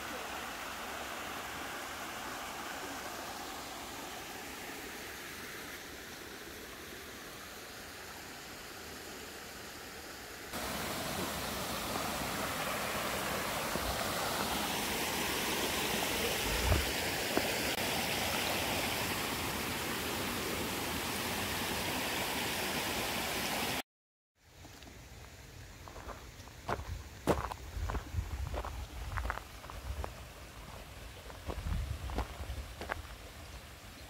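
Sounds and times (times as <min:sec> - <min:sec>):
faint hiss: 0:00.0 - 0:23.8, 0:24.4 - 0:34.0
stream flowing: 0:00.0 - 0:23.8, 0:26.7 - 0:34.0.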